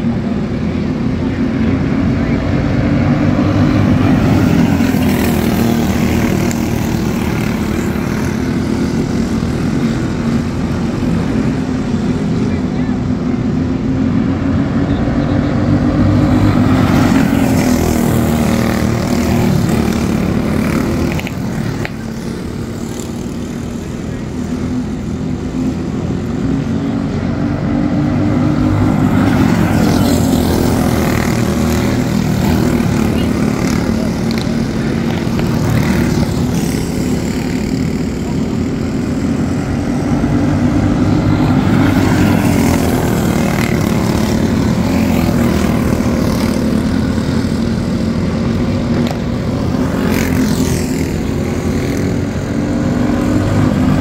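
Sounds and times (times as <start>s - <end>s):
go-kart engines droning: 0.0s - 54.0s.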